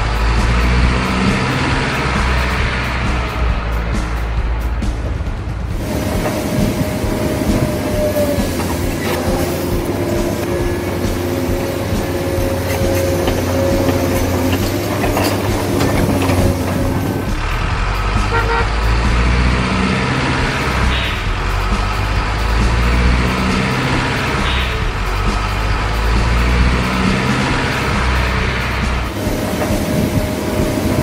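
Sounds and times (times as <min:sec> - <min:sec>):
low engine rumble: 0:00.0 - 0:31.0
truck horn notes: 0:05.8 - 0:31.0.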